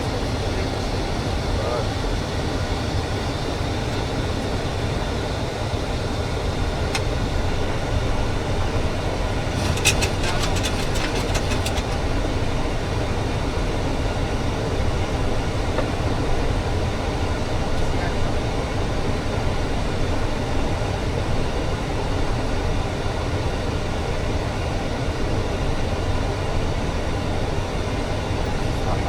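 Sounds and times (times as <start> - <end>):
airflow and engine noise: 0.0 - 29.0.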